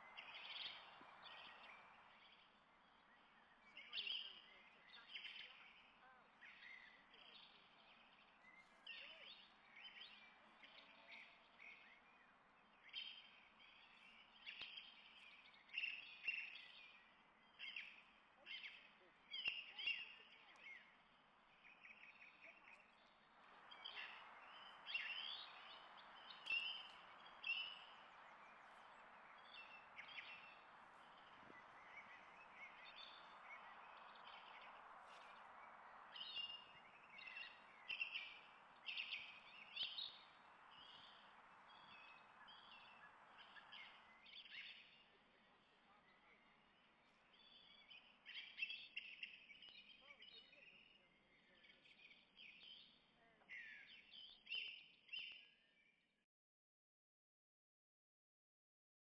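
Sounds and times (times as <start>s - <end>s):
soft steady hiss: 0.0s - 50.5s
small birds chirping: 0.0s - 56.1s.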